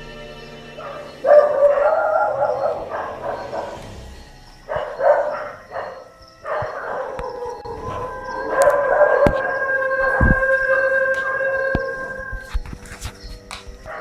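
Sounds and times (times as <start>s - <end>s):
animal howling: 0.4s - 13.0s.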